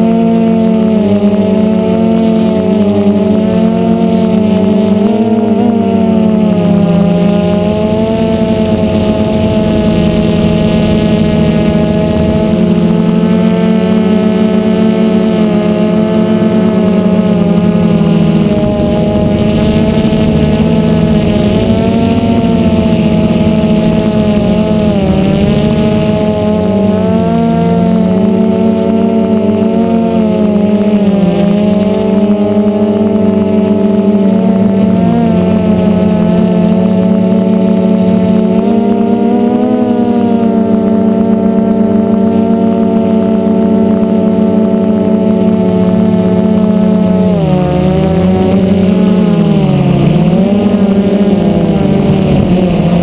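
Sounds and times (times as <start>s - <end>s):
quadcopter motors buzzing whine: 0.0s - 53.0s.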